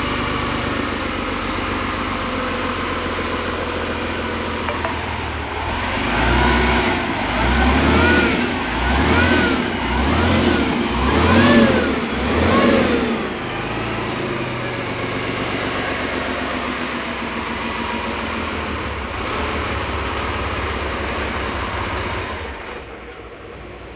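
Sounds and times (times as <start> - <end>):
diesel engine revving: 0.0 - 23.1.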